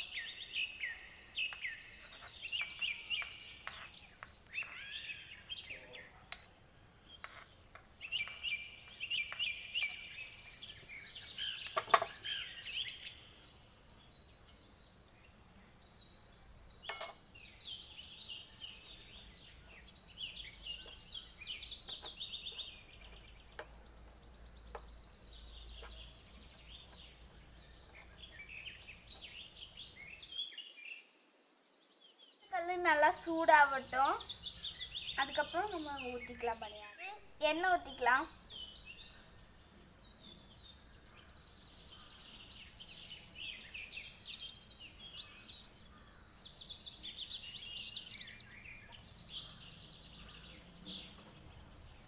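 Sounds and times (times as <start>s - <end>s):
birds chirping and singing: 0.0s - 6.4s, 7.0s - 31.0s, 32.0s - 52.0s.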